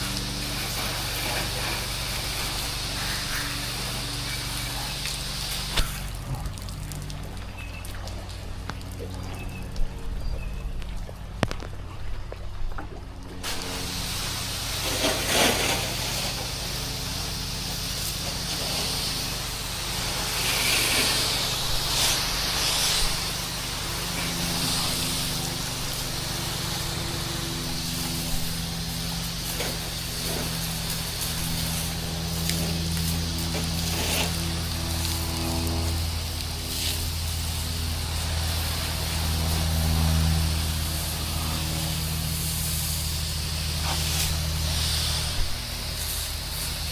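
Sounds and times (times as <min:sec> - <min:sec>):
water spray hissing: 0:00.0 - 0:10.3, 0:13.4 - 0:46.9
pressure washer engine hum: 0:00.0 - 0:46.9.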